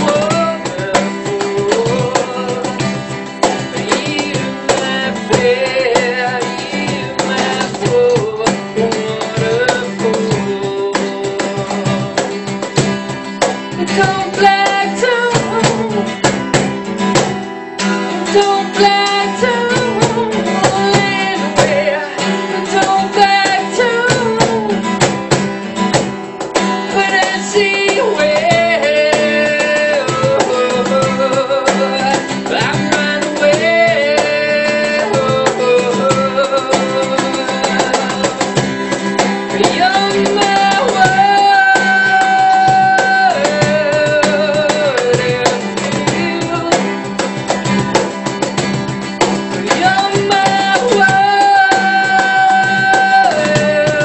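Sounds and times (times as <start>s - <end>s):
acoustic guitar strumming: 0.0s - 54.0s
hand percussion: 0.0s - 54.0s
person singing: 0.0s - 54.0s.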